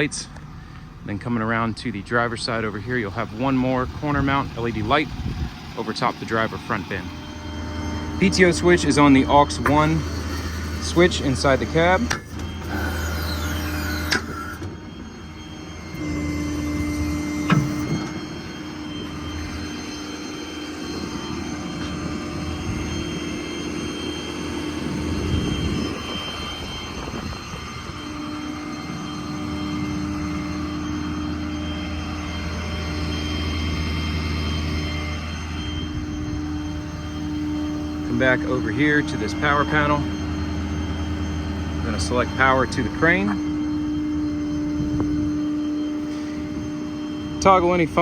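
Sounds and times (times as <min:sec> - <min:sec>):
diesel engine droning: 0:00.0 - 0:48.0
hydraulic pump tone: 0:00.0 - 0:48.0.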